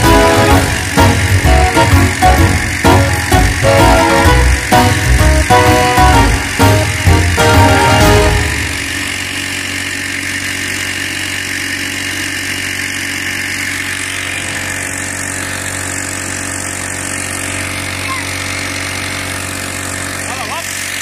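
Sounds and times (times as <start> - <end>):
small outboard motor running: 0.0 - 21.0.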